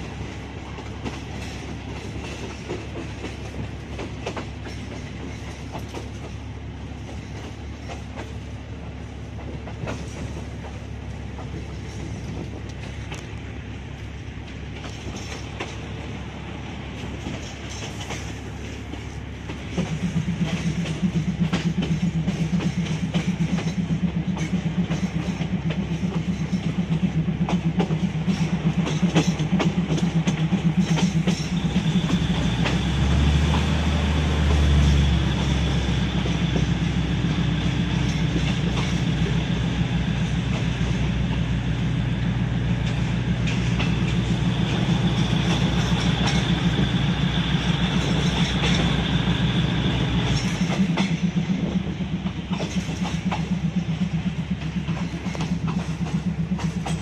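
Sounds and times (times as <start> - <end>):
wheels clicking over rail joints: 0.0 - 16.2, 16.9 - 57.0
train running rumble: 0.0 - 57.0.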